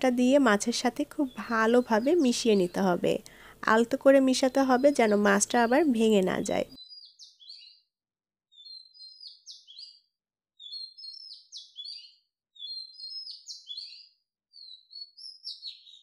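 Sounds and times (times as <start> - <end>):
songbird chirping: 0.0 - 7.9, 8.5 - 16.0.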